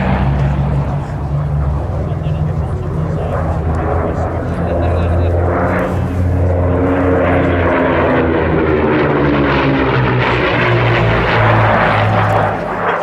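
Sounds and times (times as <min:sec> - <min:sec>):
propeller aircraft drone: 0:00.0 - 0:13.0.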